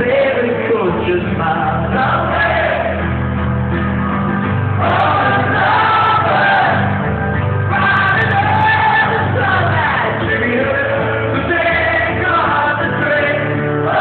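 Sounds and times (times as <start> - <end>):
live rock band with singing: 0.0 - 14.0.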